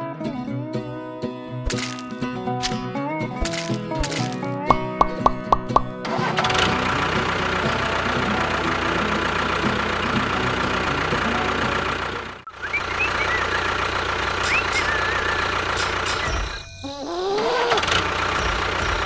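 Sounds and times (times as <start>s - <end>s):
mini tractor engine running: 1.7s - 5.0s, 6.0s - 16.6s, 17.4s - 19.0s.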